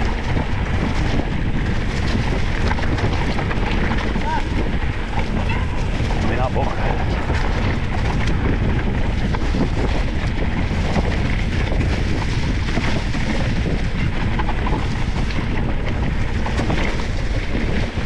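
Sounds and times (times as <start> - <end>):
bike rattling: 0.0 - 18.0
tyres rumbling over dirt: 0.0 - 18.0
wind buffeting microphone: 0.0 - 18.0.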